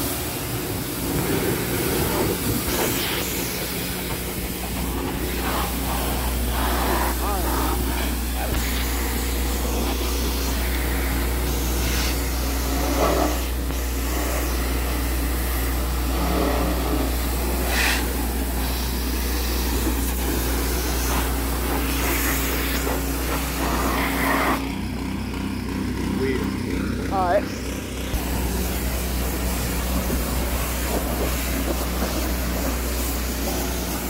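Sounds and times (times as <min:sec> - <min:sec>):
pressure washer spray hissing: 0:00.0 - 0:24.6, 0:28.1 - 0:34.0
low constant drone: 0:00.0 - 0:34.0.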